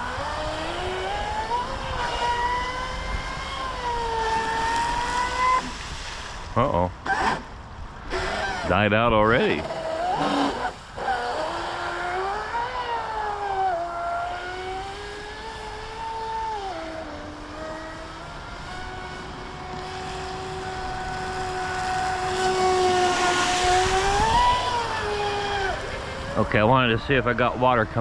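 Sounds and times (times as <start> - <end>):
model boat motor whining: 0.0 - 28.0.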